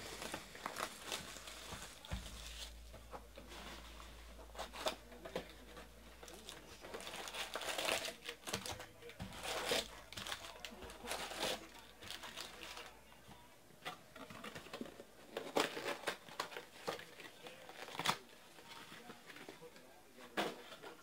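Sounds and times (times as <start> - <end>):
foil packs rustling: 0.0 - 13.0, 14.2 - 19.5
shrink wrap crinkling and tearing: 0.0 - 13.0, 13.9 - 19.0.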